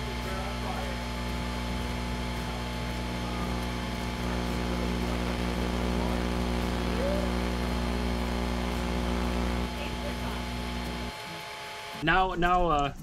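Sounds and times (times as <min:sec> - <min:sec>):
transformer electrical hum: 0:00.0 - 0:13.0.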